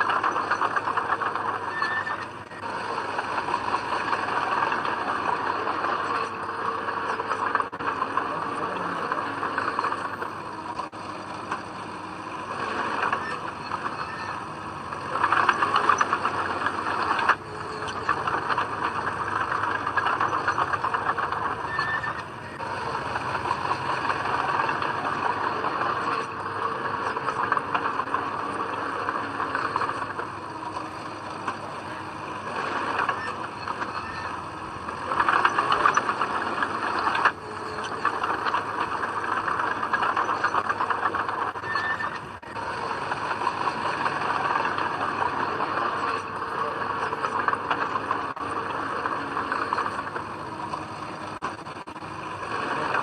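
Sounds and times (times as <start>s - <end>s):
heavy machinery rattling: 0.0s - 53.0s.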